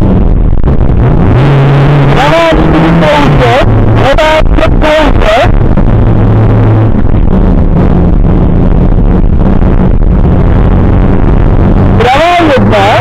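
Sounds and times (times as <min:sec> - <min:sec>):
rally car engine running hard: 0:00.0 - 0:13.0
road and tyre noise: 0:00.0 - 0:13.0.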